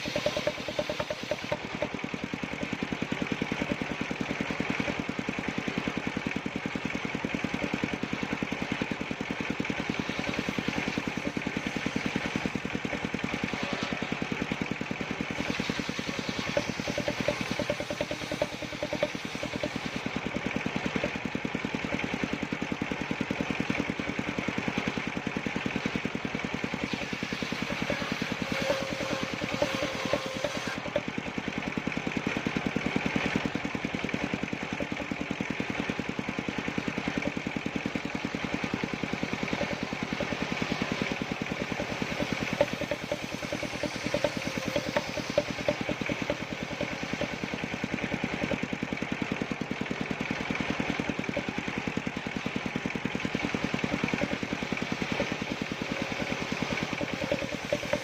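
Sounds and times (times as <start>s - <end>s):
machine engine running steadily: 0.0s - 58.0s.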